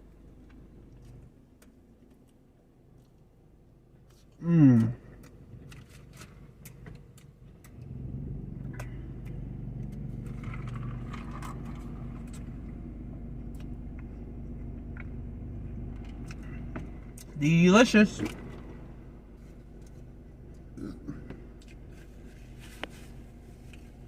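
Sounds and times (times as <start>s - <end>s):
low mechanical hum: 0.0s - 24.0s
chewing food: 0.3s - 15.2s, 15.8s - 17.4s, 19.4s - 22.8s.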